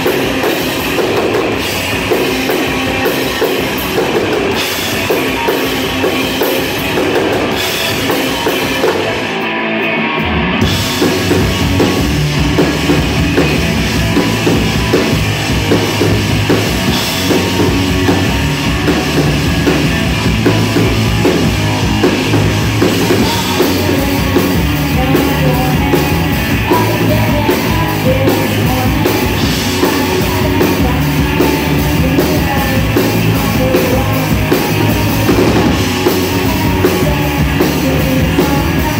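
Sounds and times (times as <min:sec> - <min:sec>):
drum kit: 0:00.0 - 0:38.9
heavy electric guitars: 0:00.0 - 0:38.9
rock band playing: 0:00.0 - 0:38.9.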